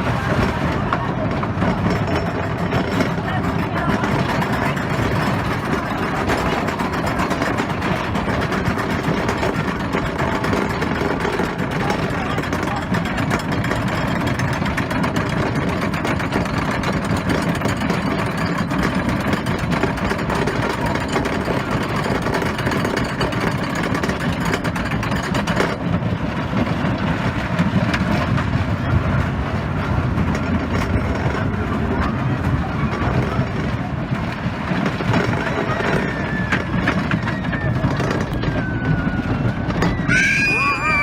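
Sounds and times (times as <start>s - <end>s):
roller coaster rumbling on track: 0.0s - 41.0s.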